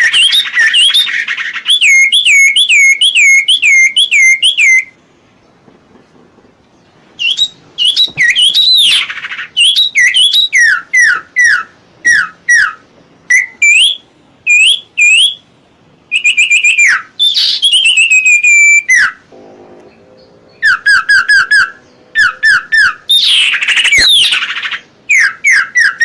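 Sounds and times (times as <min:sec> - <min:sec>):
songbird whistled calls: 0:00.0 - 0:05.0, 0:07.2 - 0:15.4, 0:16.1 - 0:19.2, 0:20.2 - 0:26.0.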